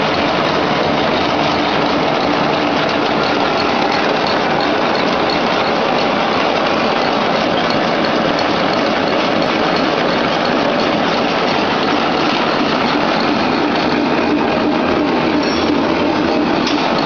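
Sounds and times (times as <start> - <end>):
loud machine running: 0.0 - 17.0.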